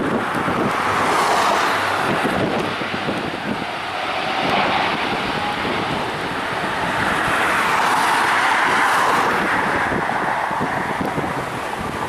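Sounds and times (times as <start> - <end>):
turboprop airliner engines rushing: 0.0 - 12.0.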